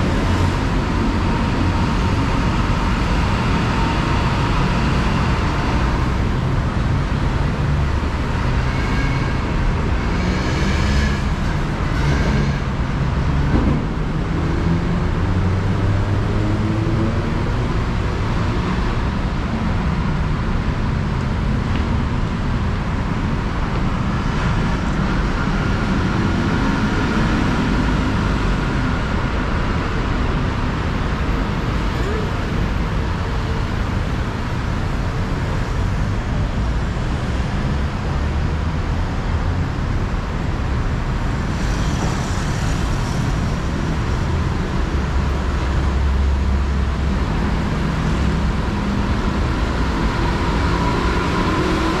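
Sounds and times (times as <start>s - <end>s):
city road traffic: 0.0s - 52.0s.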